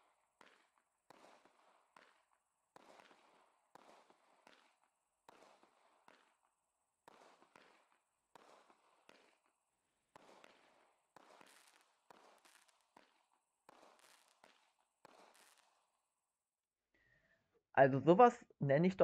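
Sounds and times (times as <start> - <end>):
faint firework bangs: 0.0 - 16.0.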